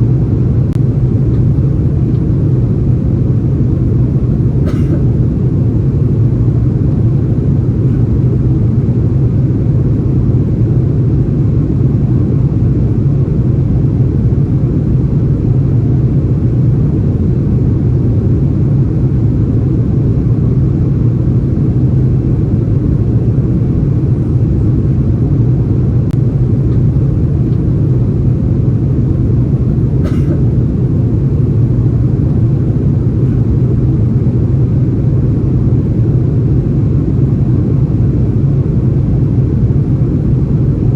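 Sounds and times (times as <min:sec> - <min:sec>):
aircraft engines rumbling: 0:00.0 - 0:40.9
rushing air in cabin: 0:00.0 - 0:40.9.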